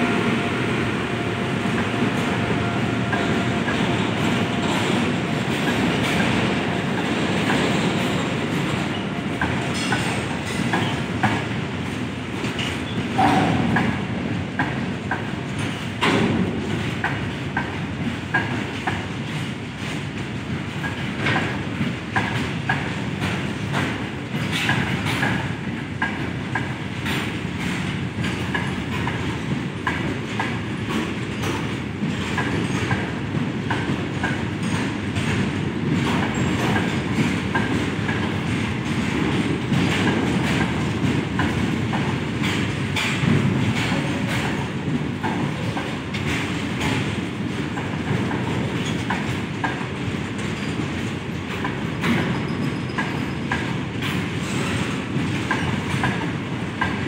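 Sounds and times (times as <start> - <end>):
freight train wheels rumbling: 0.0 - 57.0
wheels clicking over rail joints: 1.7 - 57.0.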